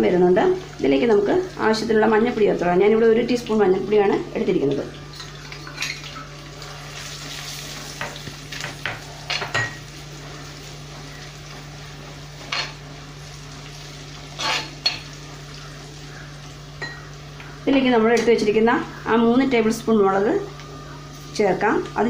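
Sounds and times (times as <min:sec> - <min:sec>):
sizzling in hot oil: 0:00.0 - 0:22.0.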